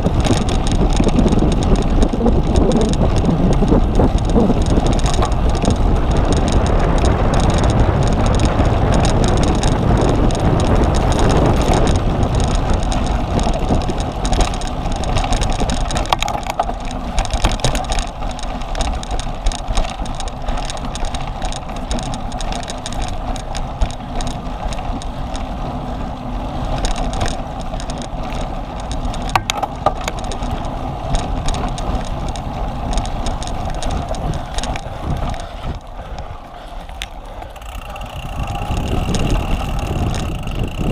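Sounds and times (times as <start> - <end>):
bike clicks and knocks: 0.0 - 40.9
bike tyre and chain noise: 0.0 - 40.9
wind on microphone: 0.0 - 40.9.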